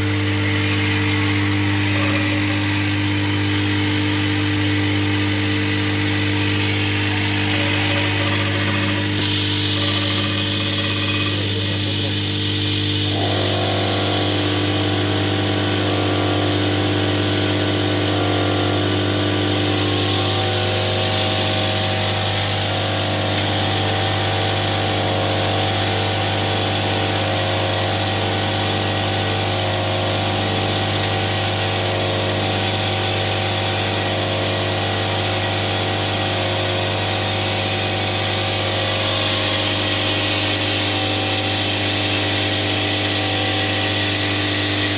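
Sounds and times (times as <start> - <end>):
packaging machine humming: 0.0 - 16.4, 17.2 - 44.9
repeating machine cycle: 0.0 - 44.9.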